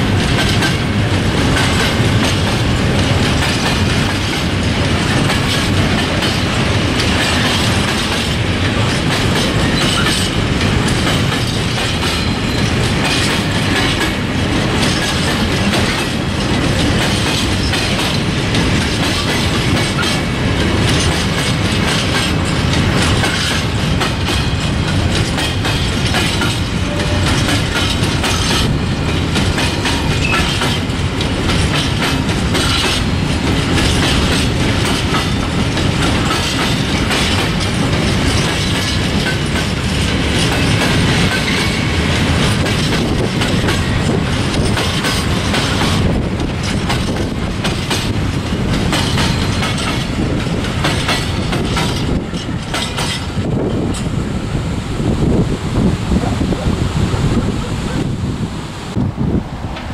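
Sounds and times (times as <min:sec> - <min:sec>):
train wheels clickety-clack: 0:00.0 - 0:55.4
freight train wheels rumbling: 0:00.0 - 0:59.9.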